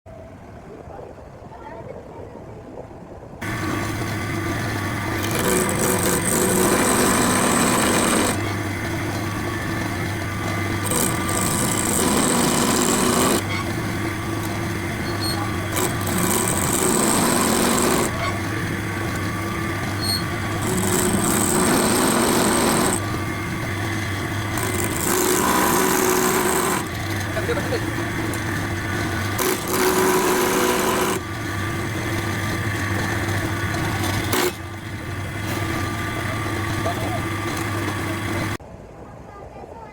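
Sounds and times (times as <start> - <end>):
turning tool cutting wood: 3.4 - 38.6
wood lathe motor hum: 3.4 - 38.6.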